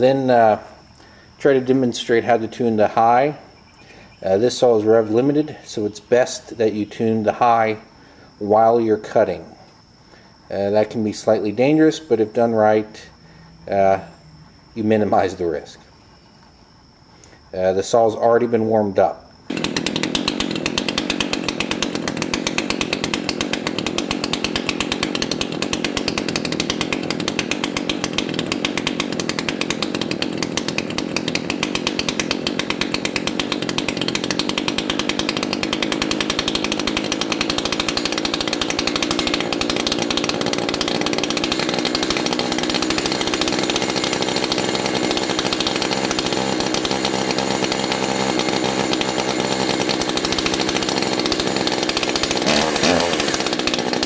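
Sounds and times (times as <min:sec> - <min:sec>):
chainsaw engine idling: 0:00.0 - 0:54.0.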